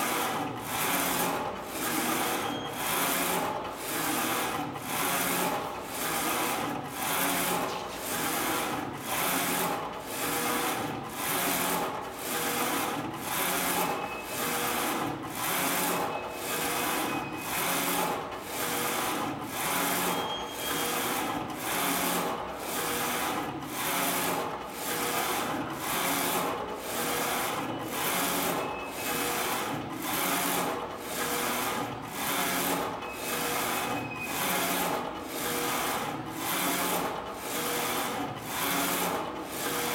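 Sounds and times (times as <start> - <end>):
printer carriage whirring: 0.0 - 39.9.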